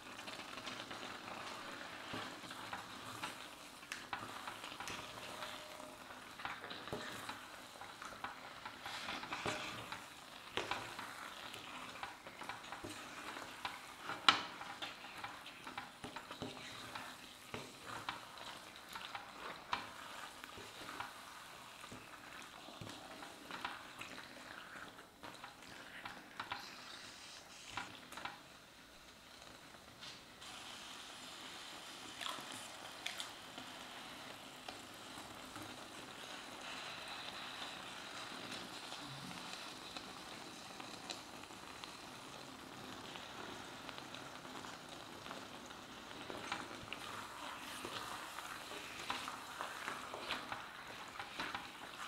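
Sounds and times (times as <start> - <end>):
food sizzling in a pan: 0.0 - 52.0
spatula stirring and scraping: 0.0 - 52.0.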